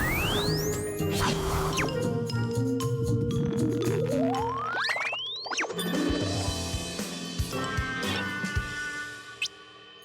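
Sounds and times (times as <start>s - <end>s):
cartoon background music: 0.0s - 10.0s.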